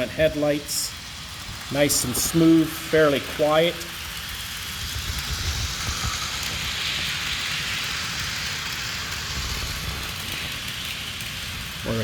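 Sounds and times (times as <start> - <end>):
even hiss: 0.0 - 12.0
model locomotive engine rumble: 0.0 - 12.0.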